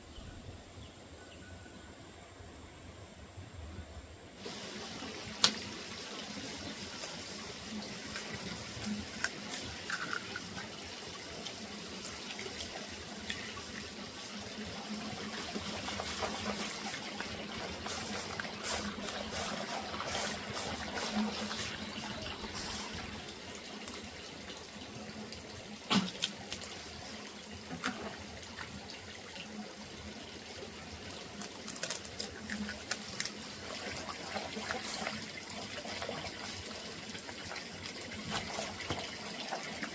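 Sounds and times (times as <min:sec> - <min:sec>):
water running and splashing: 0:04.4 - 0:39.9.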